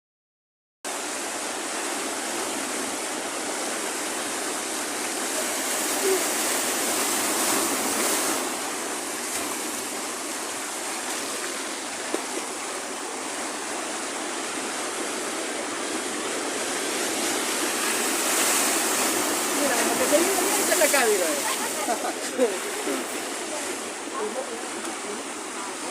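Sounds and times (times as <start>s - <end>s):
sea surf on beach: 0.9s - 25.9s.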